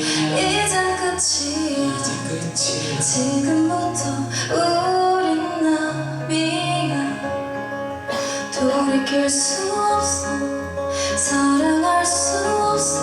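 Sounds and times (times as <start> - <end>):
live band with singing: 0.0 - 13.0.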